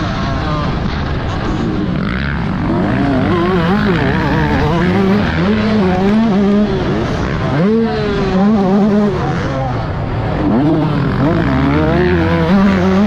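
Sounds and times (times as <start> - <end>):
motocross engine revving: 0.0 - 13.0.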